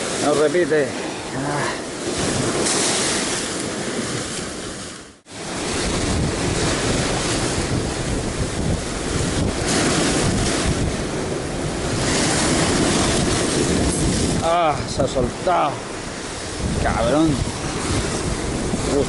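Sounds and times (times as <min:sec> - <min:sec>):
surf breaking on rocky shore: 0:00.0 - 0:19.0
wind buffeting microphone: 0:01.8 - 0:19.0.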